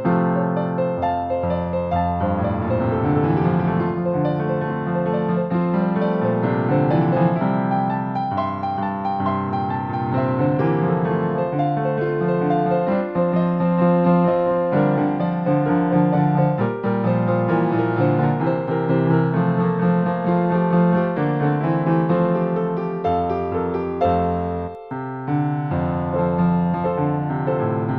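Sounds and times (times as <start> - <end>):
piano background music: 0.0 - 27.9.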